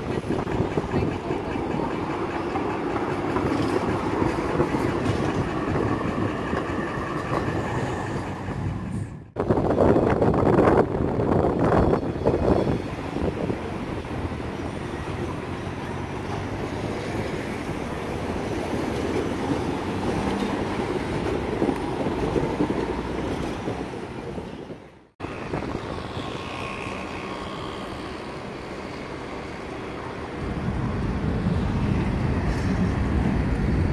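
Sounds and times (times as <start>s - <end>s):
faint high whine of tram: 0.0s - 33.9s
tram rumbling past: 0.0s - 33.9s.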